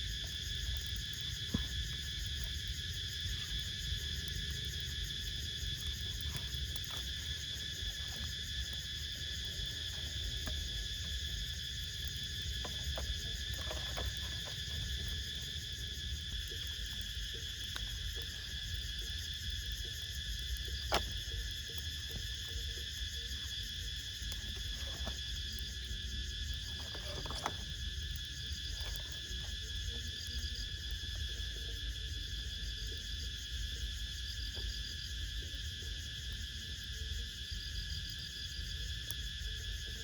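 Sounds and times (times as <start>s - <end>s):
insect chorus droning: 0.0s - 40.0s.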